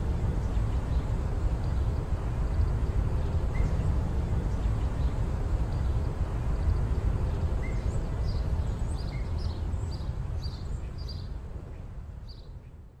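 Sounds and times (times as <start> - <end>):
steady low rumble: 0.0 - 12.3.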